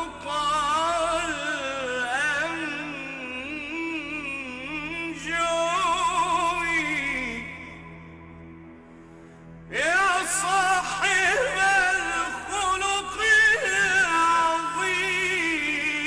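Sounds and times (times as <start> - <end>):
man chanting melismatically: 0.0 - 8.0, 9.7 - 16.0.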